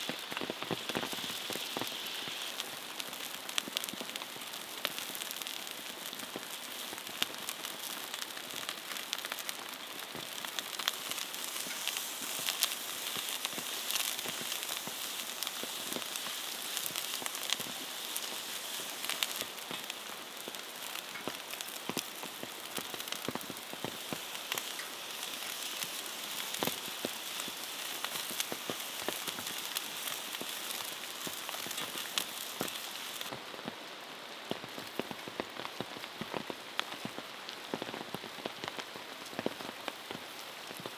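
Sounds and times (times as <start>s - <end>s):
campfire crackling: 0.0s - 40.9s
rain falling on a surface: 0.0s - 40.9s.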